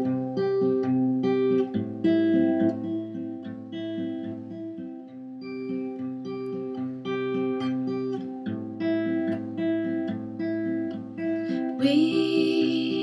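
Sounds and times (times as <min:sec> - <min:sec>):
acoustic guitar picking: 0:00.0 - 0:13.0.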